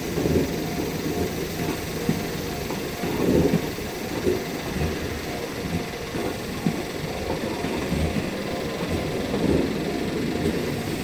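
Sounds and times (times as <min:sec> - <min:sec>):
train wheels rumbling on rails: 0:00.0 - 0:11.0
wheel clacks: 0:00.0 - 0:11.0.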